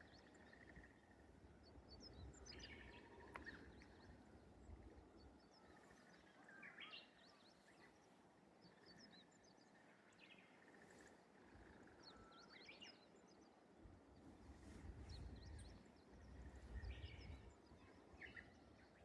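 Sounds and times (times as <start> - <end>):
bush warbler singing: 0.0 - 13.5, 14.1 - 19.0
small birds chirping: 0.0 - 19.0.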